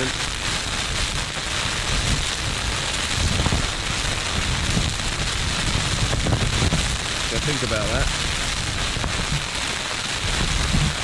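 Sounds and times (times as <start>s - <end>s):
heavy rain on tent fabric: 0.0s - 11.0s
wind buffeting tent fabric: 0.0s - 11.0s.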